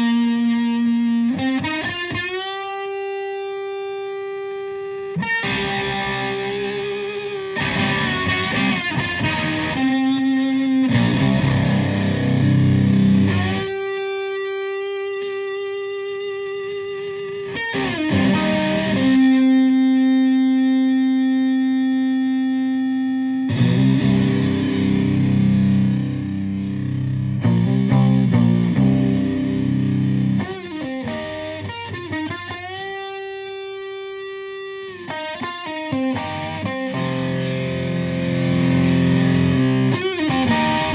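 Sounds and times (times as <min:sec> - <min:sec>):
fuzzed electric guitar riffing: 0:00.0 - 0:40.9.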